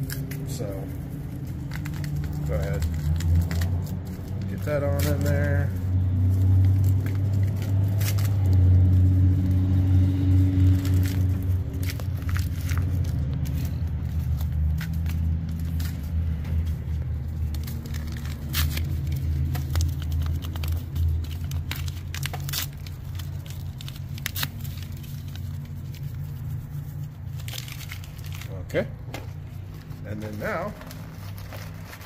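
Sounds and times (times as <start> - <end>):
low engine-like hum: 0.0 - 32.0
packets crinkling and crackling: 0.0 - 32.0.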